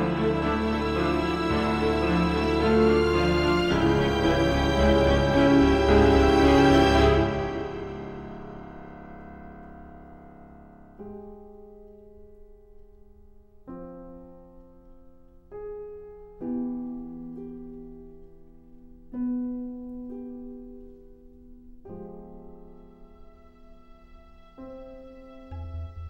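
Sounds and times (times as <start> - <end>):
piano playing slow chords: 0.0 - 26.0.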